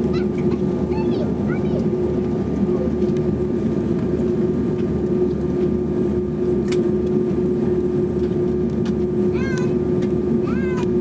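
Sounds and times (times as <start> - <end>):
aircraft cabin drone: 0.0 - 11.0.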